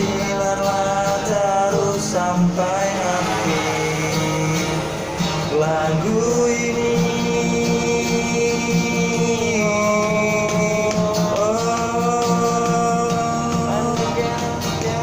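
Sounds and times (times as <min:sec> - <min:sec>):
guitar accompaniment: 0:00.0 - 0:15.0
man singing: 0:00.0 - 0:15.0.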